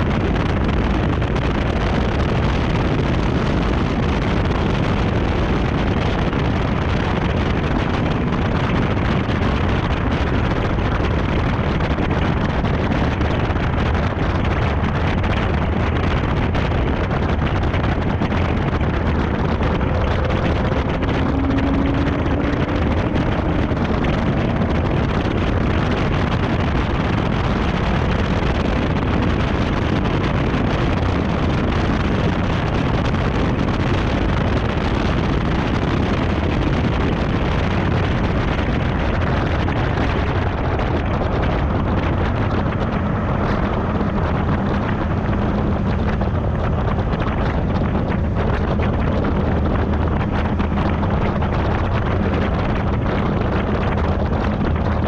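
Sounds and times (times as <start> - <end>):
car engine: 0.0 - 55.0
wind buffeting microphone: 0.0 - 55.0.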